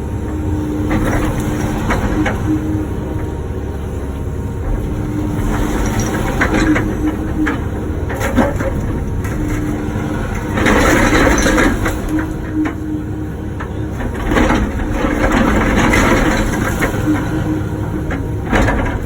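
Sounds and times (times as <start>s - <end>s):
excavator diesel engine running: 0.0s - 19.0s
hydraulics working: 0.0s - 19.0s.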